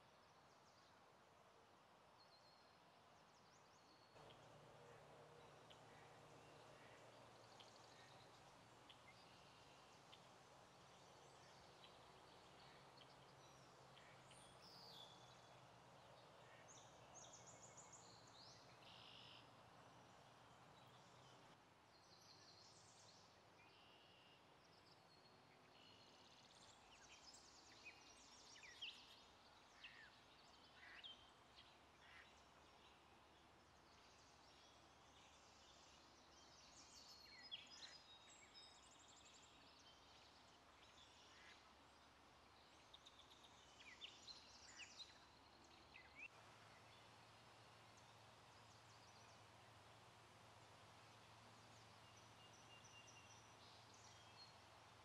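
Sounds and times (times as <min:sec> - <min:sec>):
wild birds chirping: 0:03.3 - 0:55.0.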